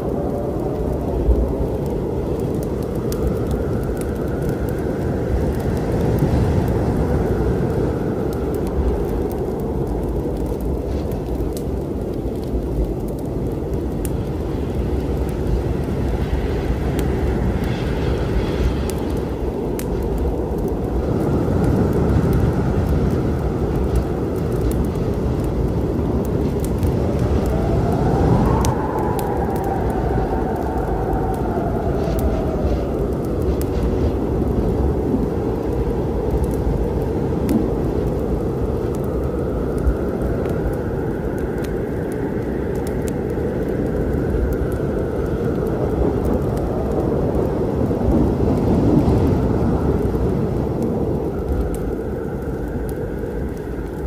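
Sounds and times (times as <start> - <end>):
storm wind howling: 0.0 - 54.0
wood fire crackling: 0.0 - 54.0.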